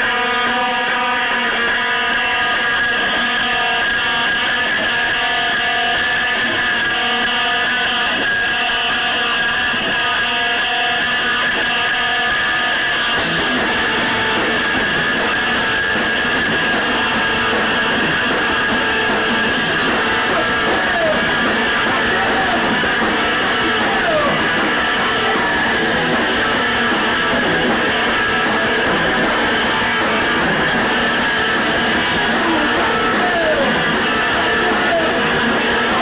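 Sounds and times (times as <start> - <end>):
rock band playing live: 0.0 - 36.0.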